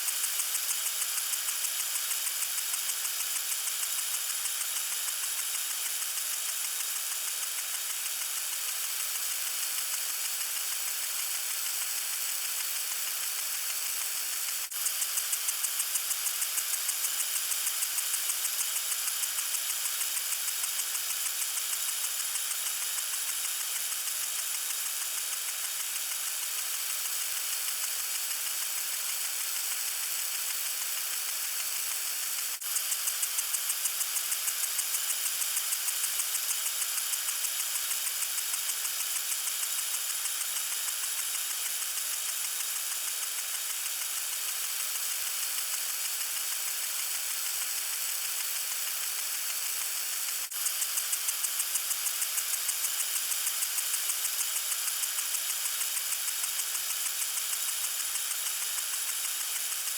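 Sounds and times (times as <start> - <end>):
sprinkler spraying water: 0.0 - 59.9.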